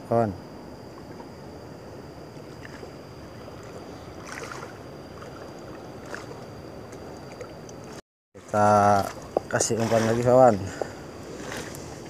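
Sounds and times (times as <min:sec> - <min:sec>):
faint high whine: 0:00.0 - 0:12.0
wind: 0:00.0 - 0:12.0
sea water washing: 0:02.2 - 0:12.0.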